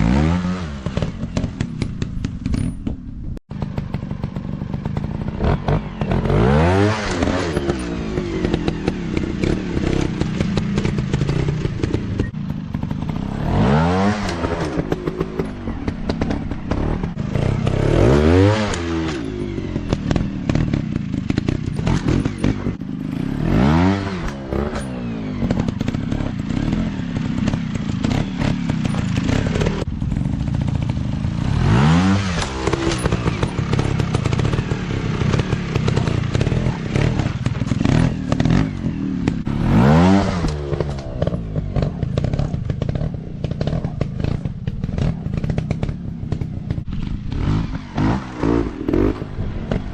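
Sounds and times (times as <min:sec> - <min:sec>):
bikes clattering over rough ground: 0:00.8 - 0:49.9
dirt bike engines revving: 0:03.6 - 0:49.9.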